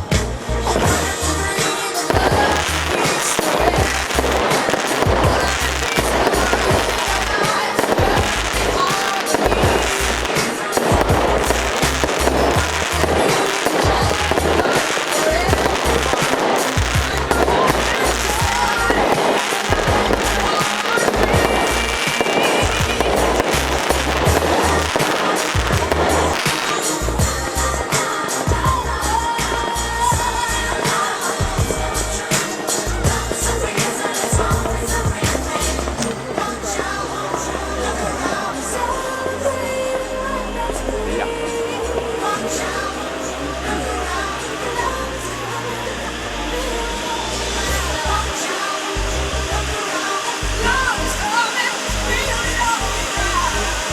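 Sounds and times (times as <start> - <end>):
fireworks bangs and crackling: 0.0 - 53.9
music playing: 0.0 - 53.9.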